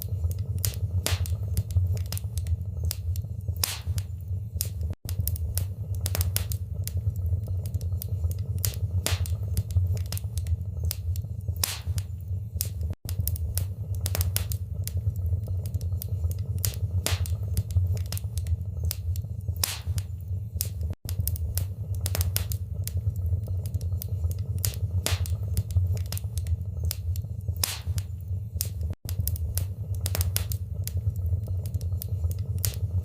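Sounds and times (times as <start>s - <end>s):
low rumble of flames: 0.0s - 33.0s
wood fire pops and snaps: 0.0s - 33.0s.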